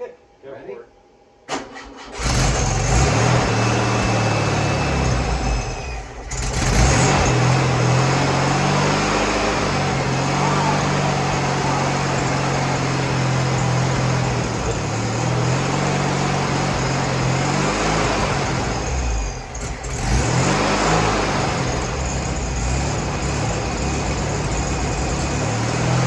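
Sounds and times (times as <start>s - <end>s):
air-cooled car engine running: 1.5s - 26.0s.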